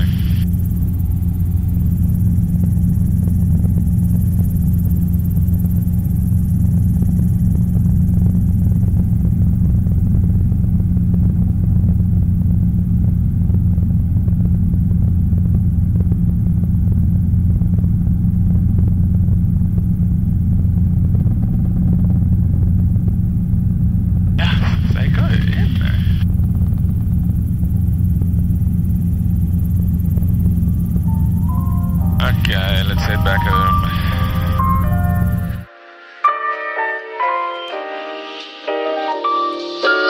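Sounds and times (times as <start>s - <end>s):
helicopter engine and rotors droning: 0.0s - 35.7s.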